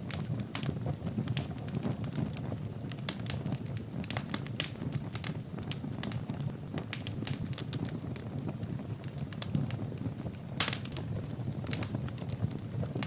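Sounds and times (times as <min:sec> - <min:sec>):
fire crackling and popping: 0:00.0 - 0:13.0
low rush of flame: 0:00.0 - 0:13.0.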